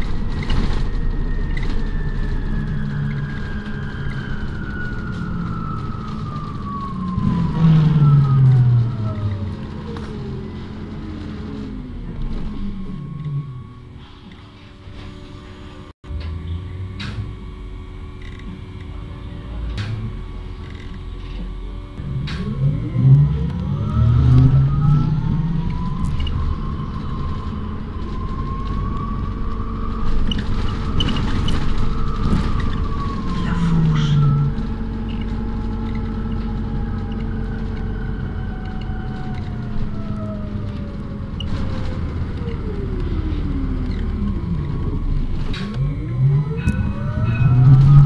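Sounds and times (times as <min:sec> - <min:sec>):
bus rumble with drive whine: 0:00.0 - 0:48.0.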